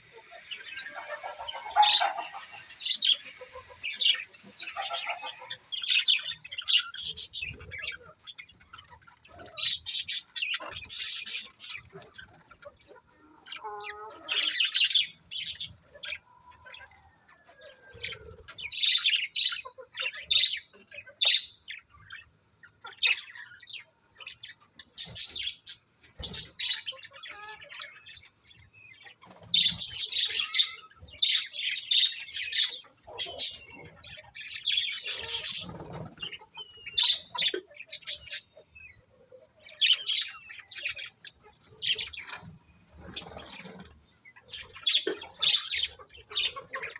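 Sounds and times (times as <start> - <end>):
budgies chirping: 0.0 - 17.1, 17.9 - 46.9.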